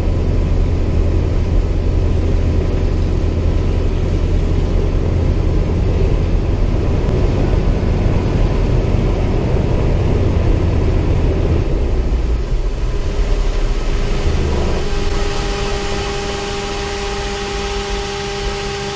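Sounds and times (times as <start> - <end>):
radial aircraft engine rumbling: 0.0 - 18.9
steady high whine: 0.0 - 18.9.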